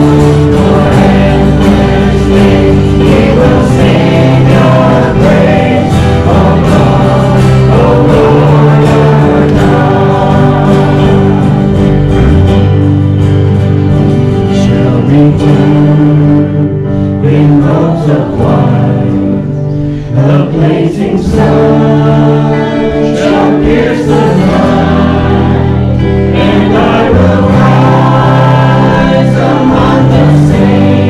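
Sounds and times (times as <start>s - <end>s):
choir singing: 0.0s - 12.7s, 14.4s - 31.0s.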